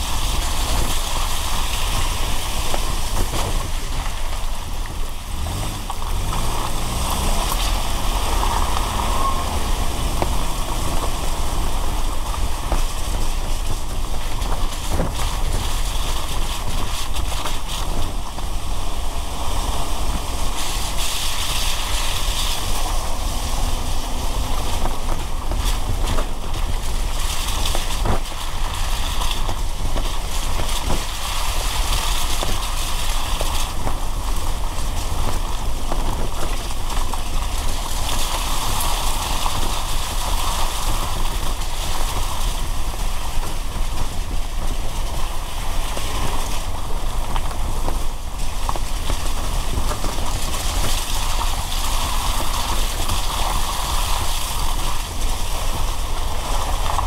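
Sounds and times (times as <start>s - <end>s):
car engine and tyres rumbling: 0.0s - 57.0s
rain and spray hiss: 0.0s - 57.0s.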